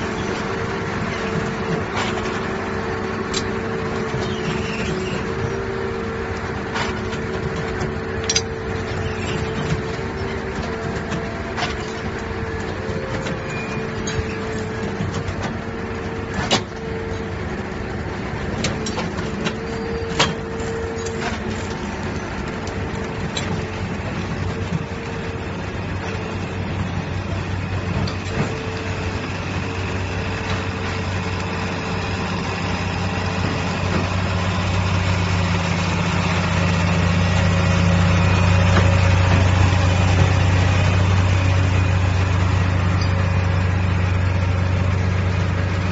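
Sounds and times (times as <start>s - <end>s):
heavy construction machine running: 0.0s - 45.9s.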